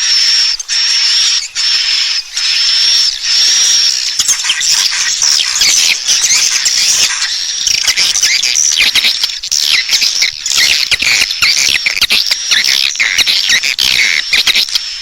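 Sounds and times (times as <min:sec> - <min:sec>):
swiftlets twittering and chirping: 0:00.0 - 0:15.0.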